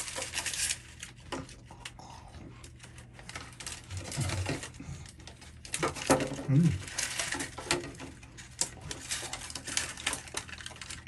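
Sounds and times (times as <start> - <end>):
eating crisp clicks and crackles: 0.0 - 11.0.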